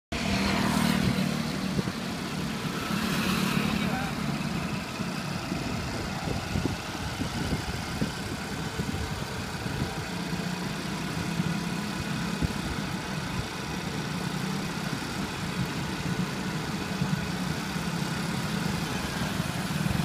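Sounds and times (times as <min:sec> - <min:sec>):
rumbling road noise: 0:00.1 - 0:20.0
vehicle engine running: 0:00.1 - 0:20.0.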